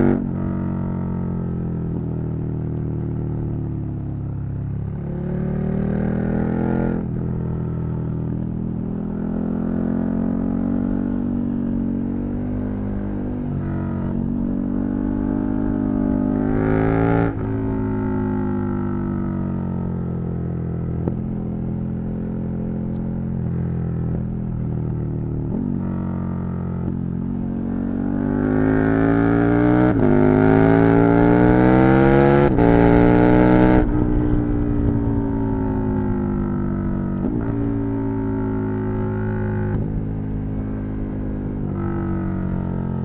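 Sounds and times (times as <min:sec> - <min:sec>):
motorcycle engine revving: 0:04.3 - 0:43.0.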